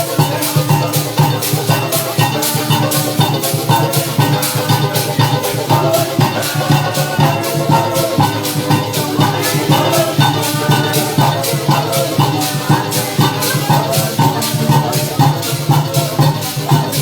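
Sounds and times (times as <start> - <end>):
drum beat: 0.0 - 17.0
live band music: 0.0 - 17.0
shakers: 0.0 - 17.0.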